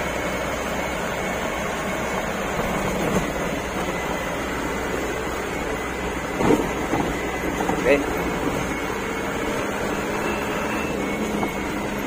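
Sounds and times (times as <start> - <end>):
diesel truck engine running: 0.0 - 12.0
truck rolling over dirt road: 1.5 - 12.0.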